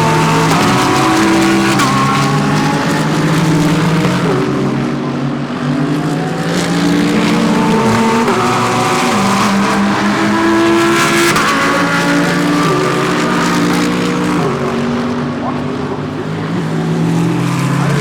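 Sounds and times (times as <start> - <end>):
race car engines shifting gears: 0.0 - 18.0.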